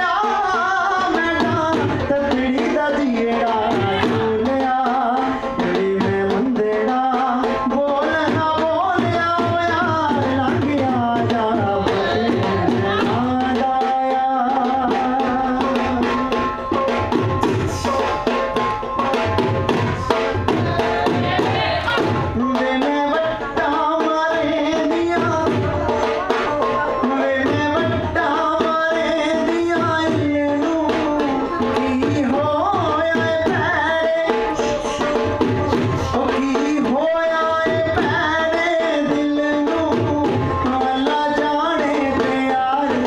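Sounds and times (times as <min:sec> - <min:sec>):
drum beating a steady rhythm: 0:00.0 - 0:43.0.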